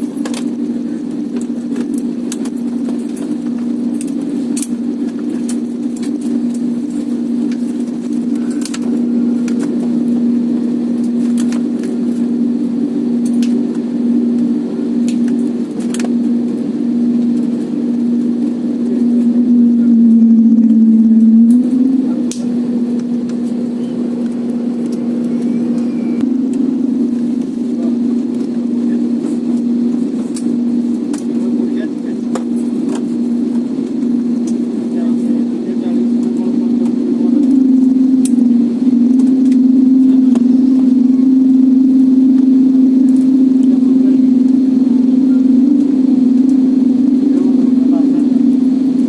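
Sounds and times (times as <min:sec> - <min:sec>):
aircraft cabin hum: 0:00.0 - 0:49.0
airliner engine drone: 0:00.0 - 0:49.0.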